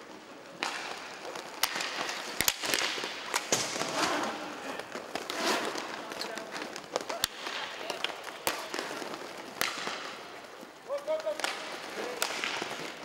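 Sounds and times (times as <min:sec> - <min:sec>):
hockey sticks and puck clacking: 0:00.0 - 0:13.0.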